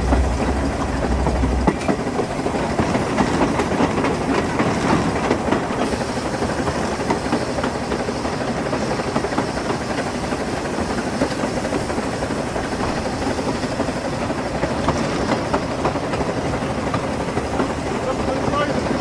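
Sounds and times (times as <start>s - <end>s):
steam exhaust rushing: 0.0s - 19.0s
train wheels clattering on rails: 0.0s - 19.0s.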